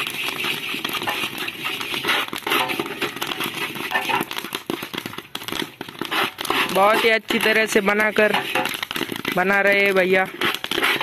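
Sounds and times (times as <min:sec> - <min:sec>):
popcorn popping in hot sand: 0:00.0 - 0:11.0.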